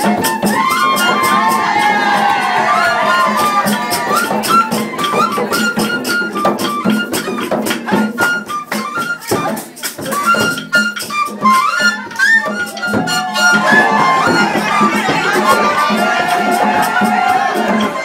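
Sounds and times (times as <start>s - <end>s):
fast percussion beat: 0.0s - 18.0s
high melody: 0.0s - 18.0s.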